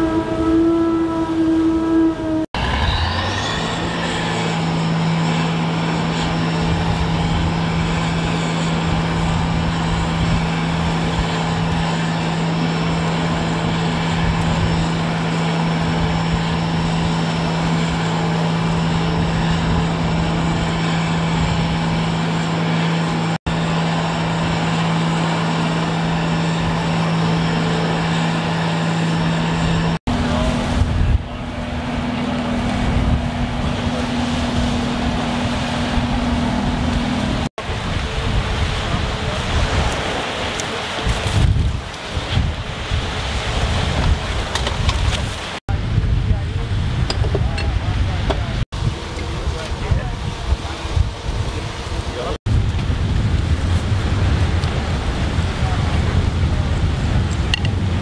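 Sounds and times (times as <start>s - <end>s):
engine drone: 0.0s - 58.0s
surf: 0.0s - 58.0s
wind noise: 0.0s - 58.0s.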